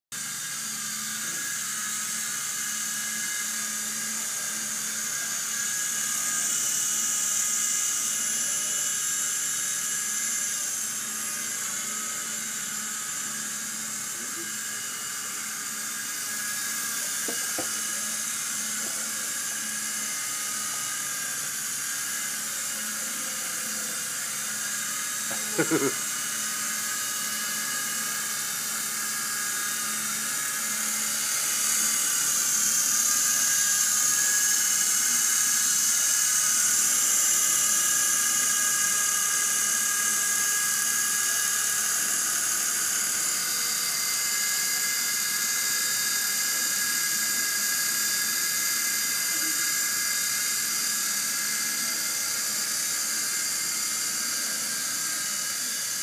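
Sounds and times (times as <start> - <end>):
toy helicopter whine: 0.1 - 56.0.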